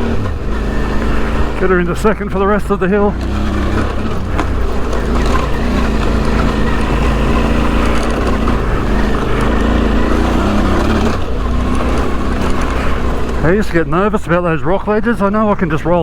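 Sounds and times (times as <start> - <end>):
motorcycle engine pulling uphill: 0.0 - 16.0.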